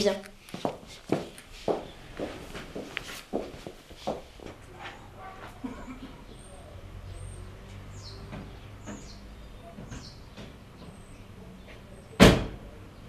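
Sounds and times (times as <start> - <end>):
birds chirping: 0.0 - 3.0, 4.6 - 13.0.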